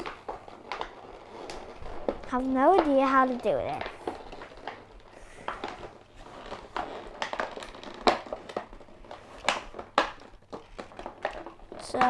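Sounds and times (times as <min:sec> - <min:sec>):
plastic crinkling: 0:00.0 - 0:12.0.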